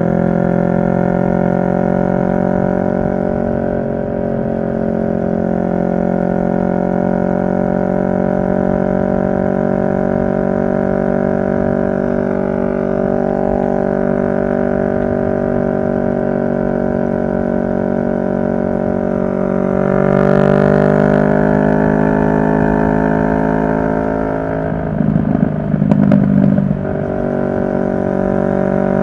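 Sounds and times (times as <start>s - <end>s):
motorcycle engine droning: 0.0s - 29.0s.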